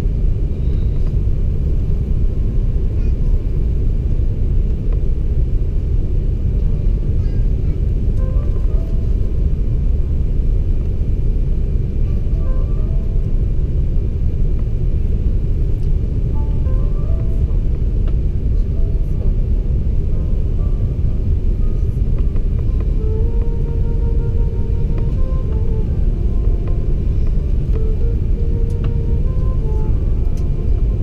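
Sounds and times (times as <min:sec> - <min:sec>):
low roar of engines and airflow: 0:00.0 - 0:31.0.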